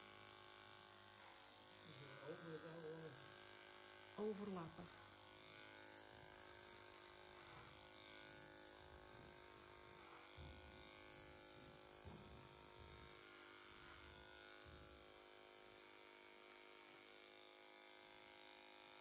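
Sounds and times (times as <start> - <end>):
electric clippers buzzing: 0.0 - 19.0.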